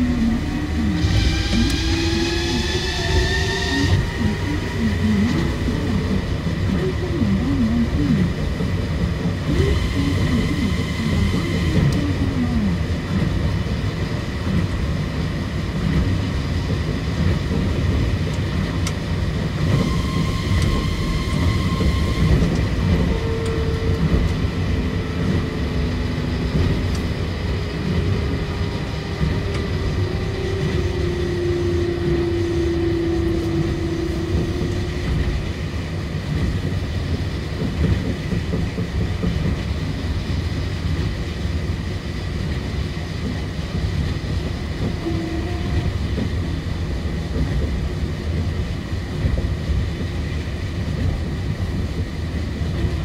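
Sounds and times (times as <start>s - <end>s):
monorail car rumbling: 0.0s - 53.0s.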